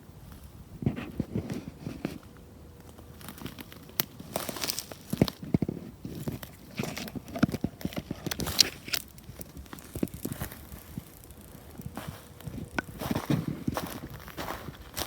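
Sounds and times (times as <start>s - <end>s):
footsteps on forest floor: 2.8s - 15.0s.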